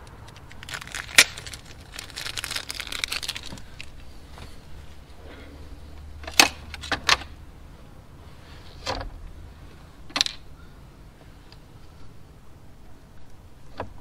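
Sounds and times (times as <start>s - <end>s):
steady low rumble: 0.0s - 13.7s.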